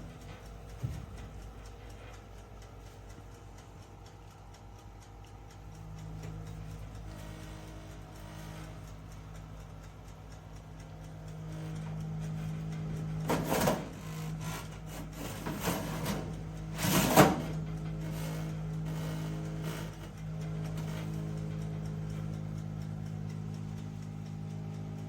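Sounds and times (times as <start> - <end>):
oven fan humming: 0.0 - 25.0.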